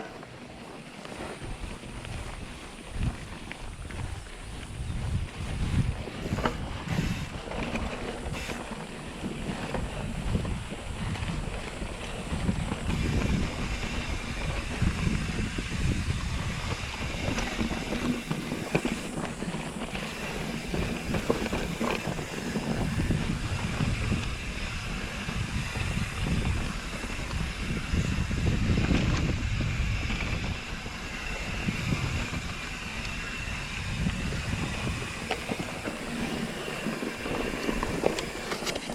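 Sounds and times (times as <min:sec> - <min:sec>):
bike tyres rolling on dirt: 0:00.0 - 0:38.9
wind buffeting microphone: 0:00.0 - 0:38.9.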